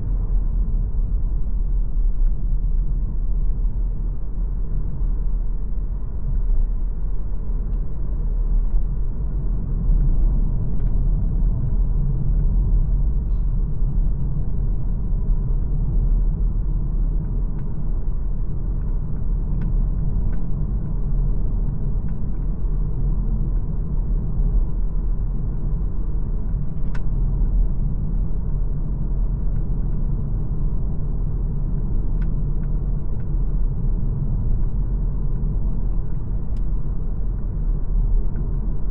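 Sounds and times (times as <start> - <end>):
car rumble on the move: 0.0 - 38.9.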